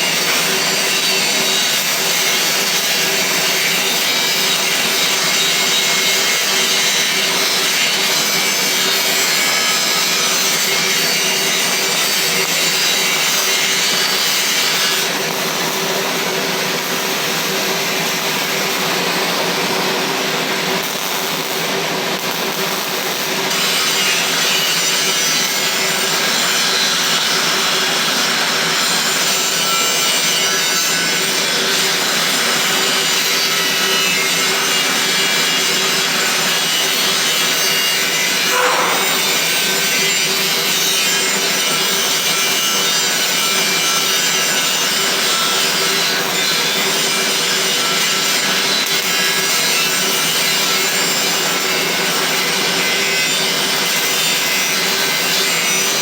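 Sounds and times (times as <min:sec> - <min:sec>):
welding arc crackling hiss: 0:00.0 - 0:56.0.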